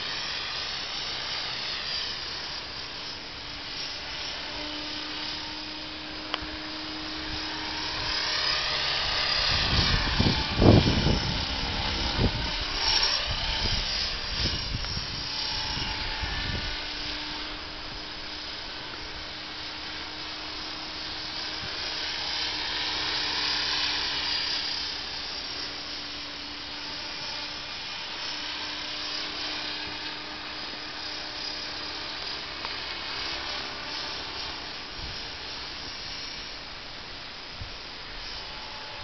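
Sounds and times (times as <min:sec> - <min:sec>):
rc helicopter whine: 0:00.0 - 0:39.0.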